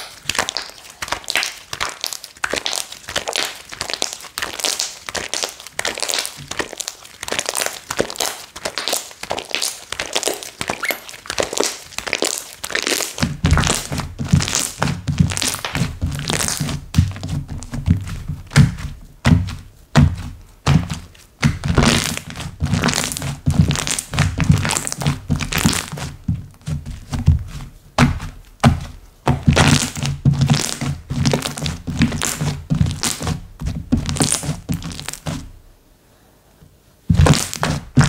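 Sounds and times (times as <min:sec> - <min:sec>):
hands squishing slime: 0:00.0 - 0:35.6, 0:37.1 - 0:38.0.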